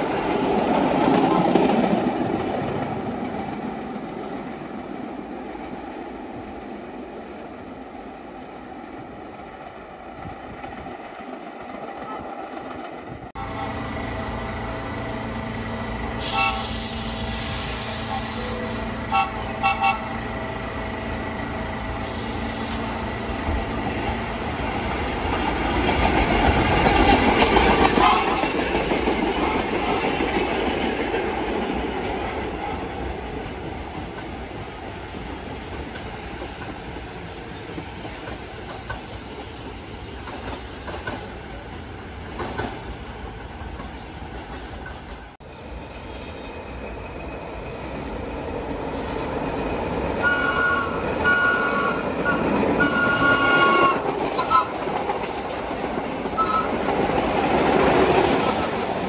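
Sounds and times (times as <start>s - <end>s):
distant train: 0.0s - 59.0s
subway train passing: 0.0s - 59.0s.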